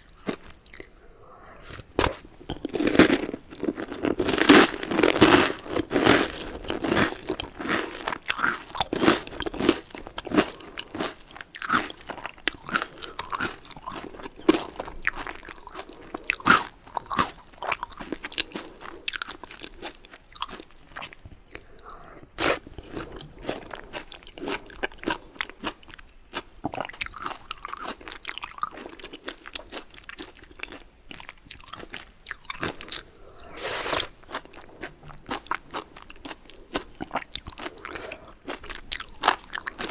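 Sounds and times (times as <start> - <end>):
chewing and crunching bread: 0.0 - 39.9.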